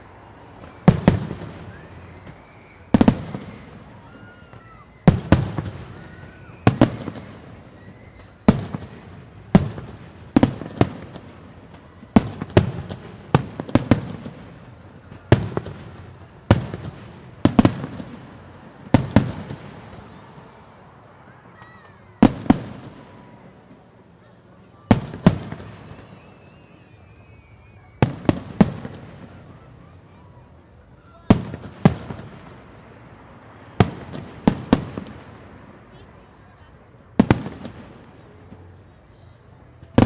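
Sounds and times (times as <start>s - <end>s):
fireworks bursting with echo: 0.0s - 40.0s.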